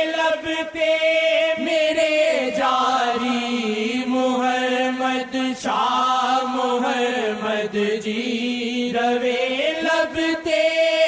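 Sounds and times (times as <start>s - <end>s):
person chanting devotional song: 0.0s - 11.0s.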